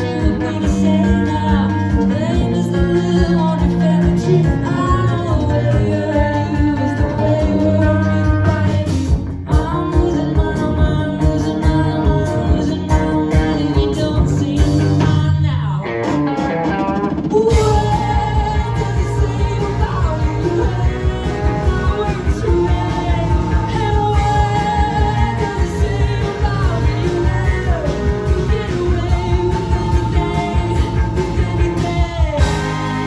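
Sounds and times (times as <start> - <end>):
woman singing: 0.0 - 16.2, 17.2 - 33.0
live rock band playing: 0.0 - 33.0.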